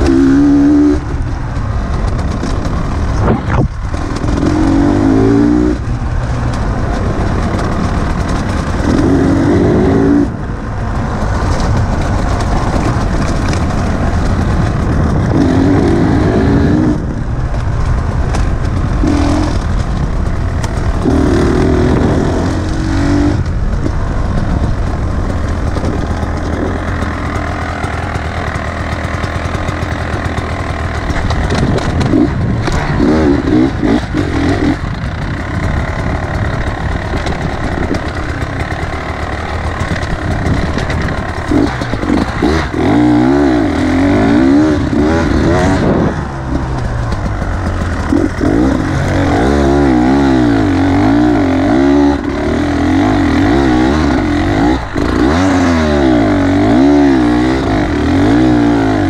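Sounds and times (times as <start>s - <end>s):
two-stroke motorcycle engine revving: 0.0s - 59.0s.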